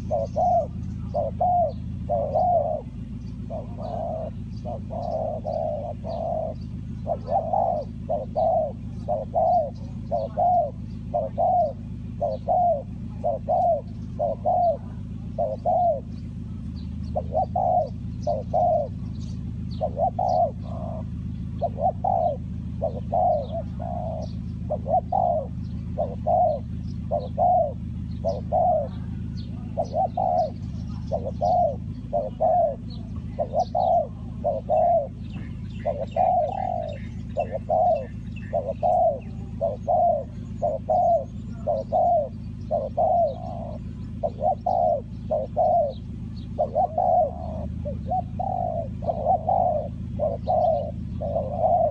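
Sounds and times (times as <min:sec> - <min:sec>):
dove cooing: 0:00.0 - 0:51.9
steady low hum: 0:00.0 - 0:51.9.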